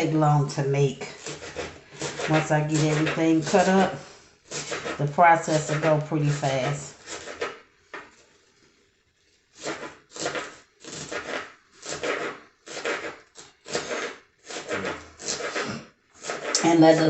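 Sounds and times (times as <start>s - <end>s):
knife slicing on cutting board: 1.1s - 8.2s, 9.6s - 17.0s.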